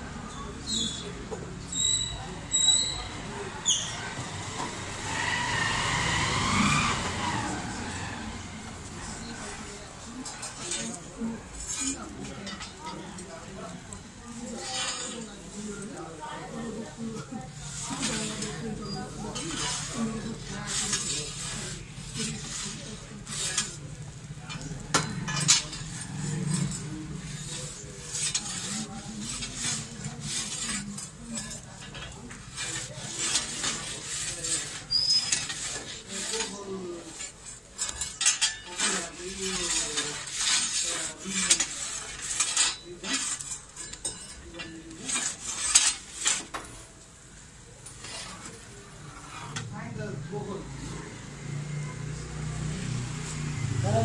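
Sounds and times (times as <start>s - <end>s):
metal peel scraping stone floor: 1.7s - 47.1s, 47.8s - 51.2s.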